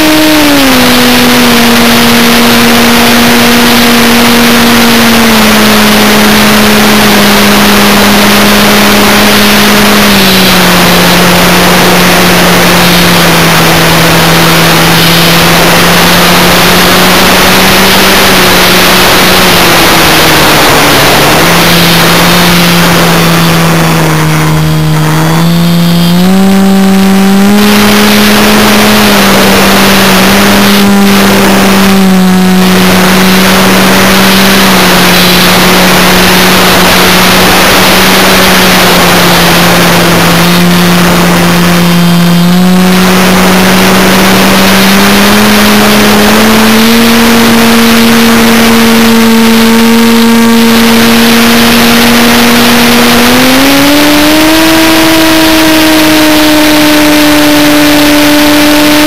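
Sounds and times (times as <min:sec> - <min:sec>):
model aircraft motor drone: 0:00.0 - 0:59.0.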